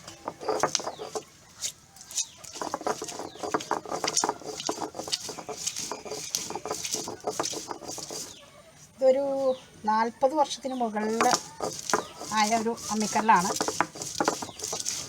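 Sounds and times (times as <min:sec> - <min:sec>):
stone roller scraping grinding stone: 0:00.0 - 0:08.4, 0:11.0 - 0:15.0.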